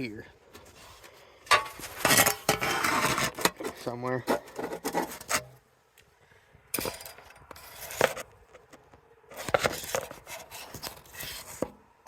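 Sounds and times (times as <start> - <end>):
camera handling scrapes and knocks: 0.5 - 5.6, 6.8 - 11.8.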